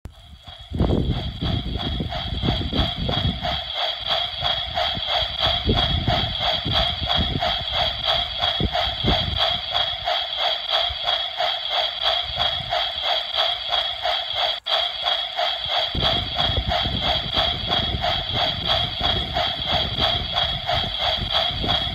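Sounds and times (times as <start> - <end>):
rhythmic train-like chugging: 0.0 - 21.9
low rumble: 0.1 - 21.9.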